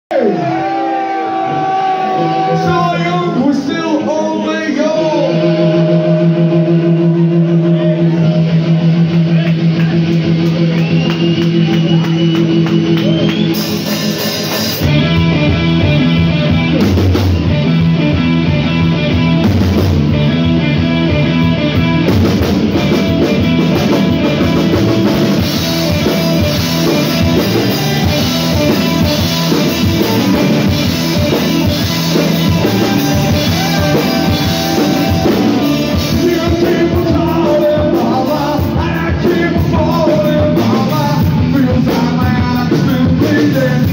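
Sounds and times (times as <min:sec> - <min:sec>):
drums: 0:00.0 - 0:43.9
rock band playing: 0:00.1 - 0:43.9.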